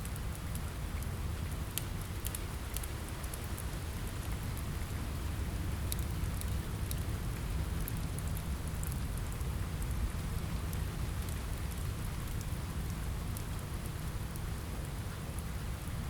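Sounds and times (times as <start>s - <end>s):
rain against a window: 0.0s - 16.0s
wood fire crackling: 0.0s - 16.0s.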